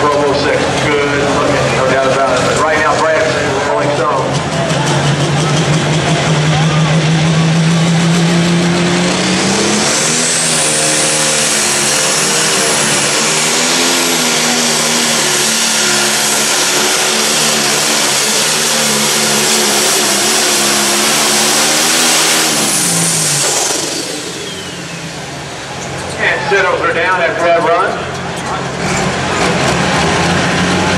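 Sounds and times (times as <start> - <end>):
diesel engine at full throttle: 0.0 - 30.9
high turbocharger whine: 0.0 - 30.9.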